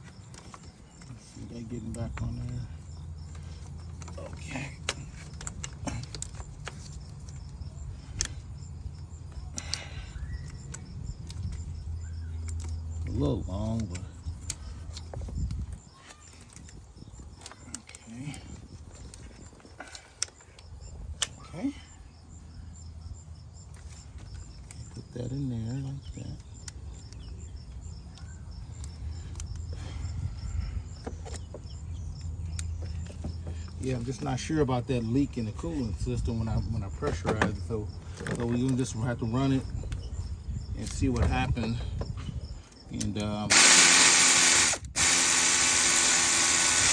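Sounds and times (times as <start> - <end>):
insect chirping: 0.0 - 46.9.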